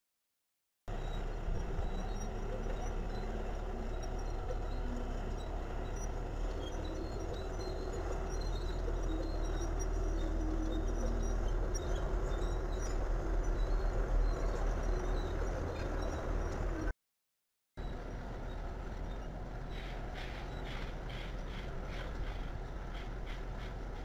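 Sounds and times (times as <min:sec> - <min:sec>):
diesel engine rumble: 0:00.9 - 0:16.9, 0:17.8 - 0:24.0.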